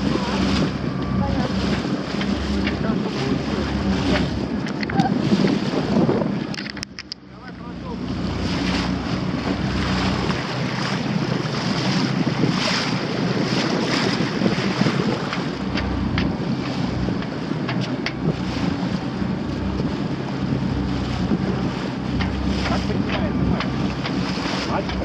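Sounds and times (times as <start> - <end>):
water splashing along hull: 0.0 - 25.0
wind buffeting microphone: 0.0 - 25.0.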